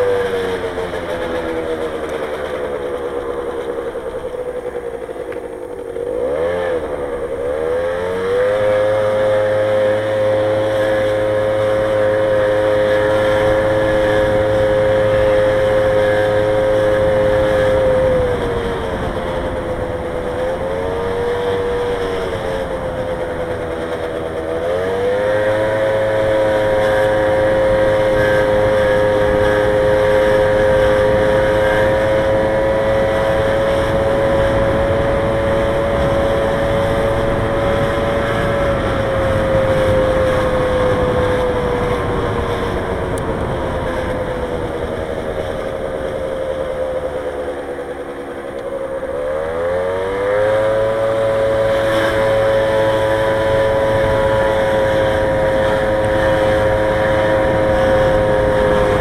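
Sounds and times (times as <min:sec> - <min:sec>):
motorbike engine accelerating: 0:00.0 - 0:59.0
wind and road noise: 0:00.0 - 0:59.0.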